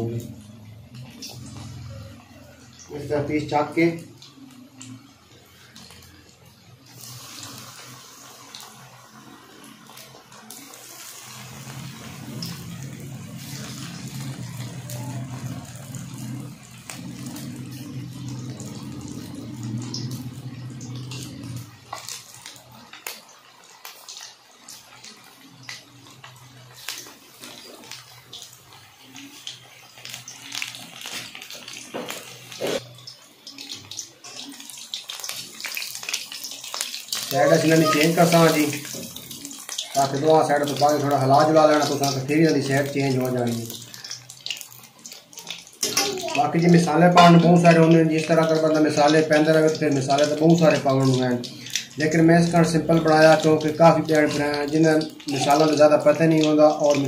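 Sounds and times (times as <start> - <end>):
bubbling sizzle of deep-frying: 0.0 - 57.0.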